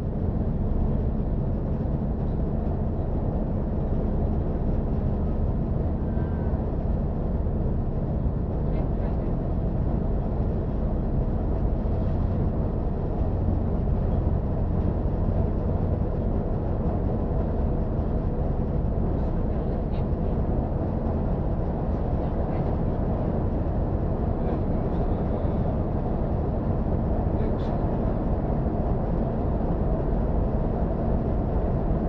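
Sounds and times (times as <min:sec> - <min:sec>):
train engine and wheels rumbling: 0:00.0 - 0:32.0.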